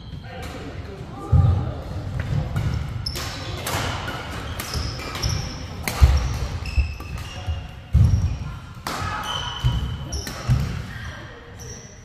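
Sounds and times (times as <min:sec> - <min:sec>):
shoes squeaking on court floor: 0:02.3 - 0:12.0.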